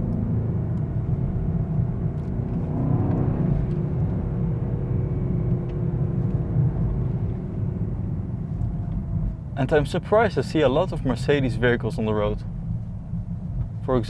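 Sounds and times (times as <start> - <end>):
car engine low rumble: 0.0 - 14.0
road noise inside car: 0.0 - 14.0.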